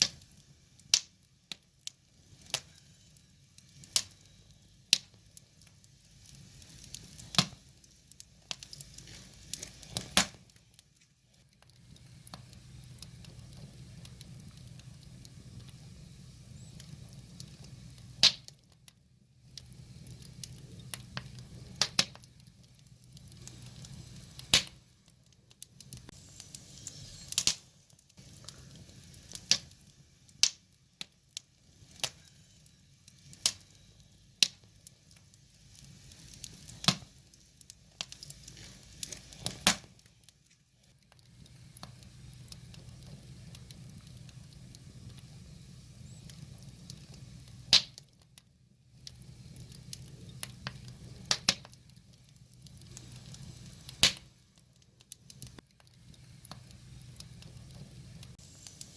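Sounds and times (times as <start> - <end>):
rush of flame: 0.0 - 18.7, 19.4 - 48.2, 48.9 - 58.9
wood fire crackling: 0.0 - 58.9.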